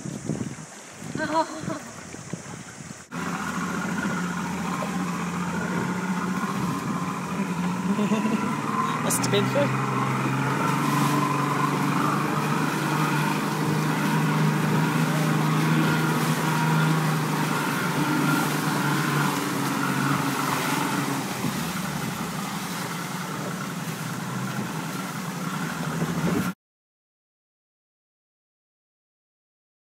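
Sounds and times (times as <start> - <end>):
outboard motor running: 0.0 - 26.6
water wash: 0.0 - 26.6
wind: 0.0 - 26.6.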